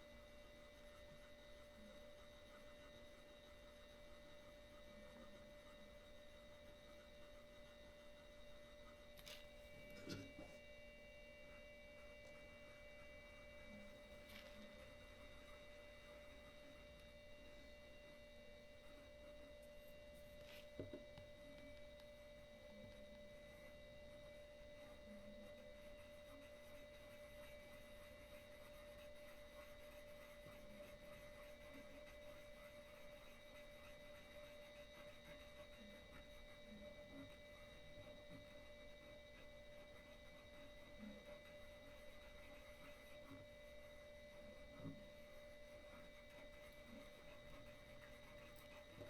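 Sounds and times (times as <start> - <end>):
faint electrical whine: 0.0 - 49.0.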